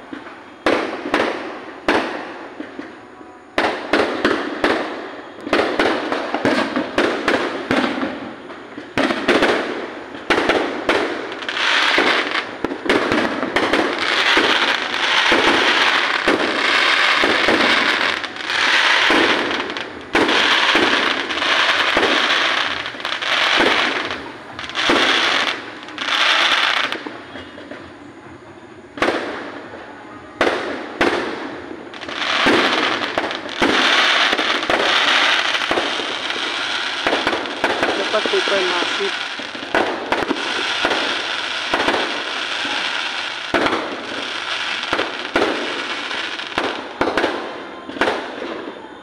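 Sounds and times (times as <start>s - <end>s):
fireworks exploding: 0.0s - 49.0s.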